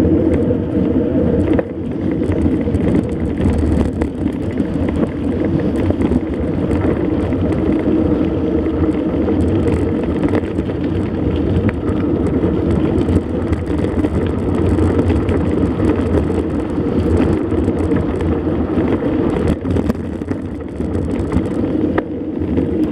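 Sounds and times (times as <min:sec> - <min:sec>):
bike clicks and rattles: 0:00.0 - 0:22.9
bike riding rumble: 0:00.0 - 0:22.9
wind rush: 0:00.0 - 0:22.9.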